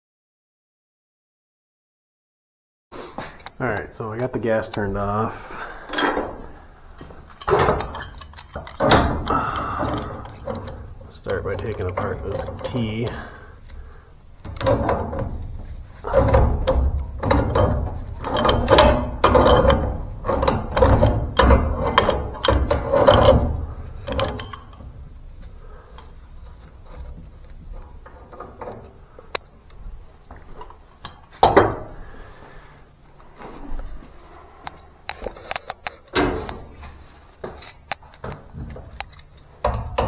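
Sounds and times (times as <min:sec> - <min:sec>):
metallic creaking and grinding: 0:04.0 - 0:40.0
pipe handling noise: 0:05.5 - 0:40.0.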